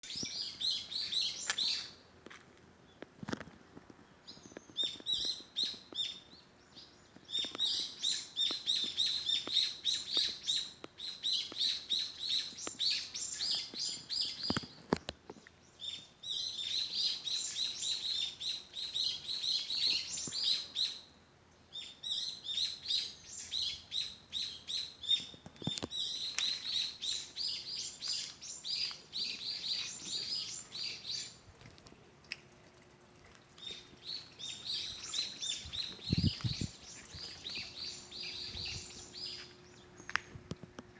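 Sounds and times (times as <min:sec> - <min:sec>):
small bird chirping: 0:00.0 - 0:02.0, 0:04.2 - 0:21.1, 0:21.7 - 0:31.4, 0:33.4 - 0:40.4.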